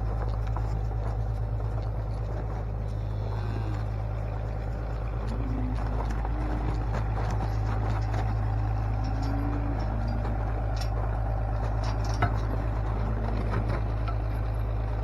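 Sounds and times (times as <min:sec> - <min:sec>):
engine idling: 0:00.0 - 0:15.0
light knocks and clatter: 0:00.0 - 0:15.0.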